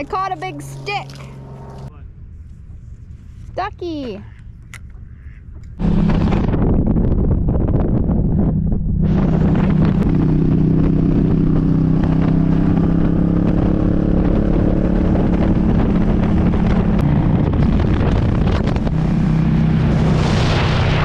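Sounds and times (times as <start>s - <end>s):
engine running steadily: 0.0s - 21.0s
wind noise on microphone: 1.9s - 21.0s.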